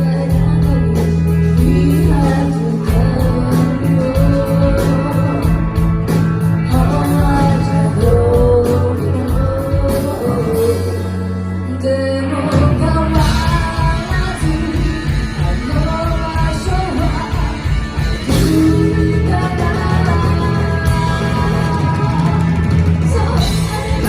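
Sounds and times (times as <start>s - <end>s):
live rock band playing: 0.0s - 24.0s
person singing: 0.0s - 24.0s.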